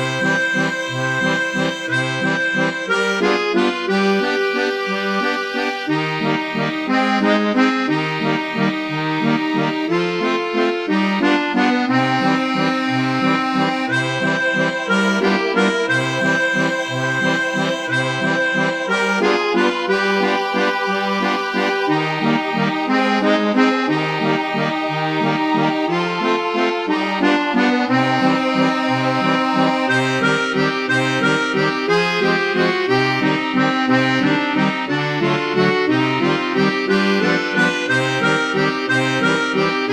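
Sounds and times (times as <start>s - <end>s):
accordion playing a waltz: 0.0s - 39.9s.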